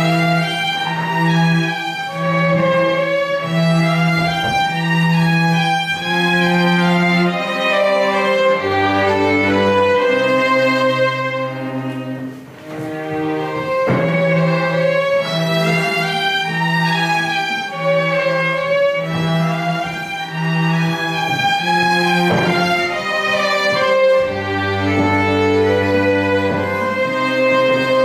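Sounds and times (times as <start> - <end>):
string ensemble playing: 0.0 - 28.0.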